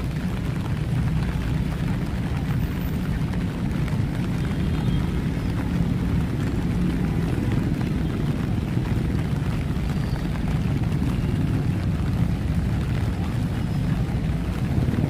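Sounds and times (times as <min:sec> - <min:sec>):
city traffic rumble: 0:00.0 - 0:15.0
steady rain falling: 0:00.0 - 0:15.0.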